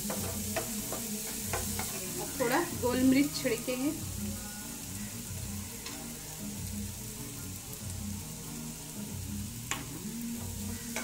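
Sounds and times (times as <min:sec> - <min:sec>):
vegetables sizzling in frying pan: 0:00.0 - 0:11.0.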